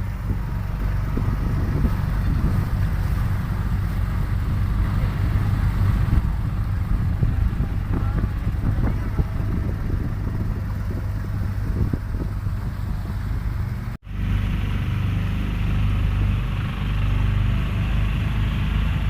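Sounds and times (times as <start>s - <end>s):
motorboat engine running: 0.0s - 19.0s
wind rumbling on microphone: 0.0s - 19.0s.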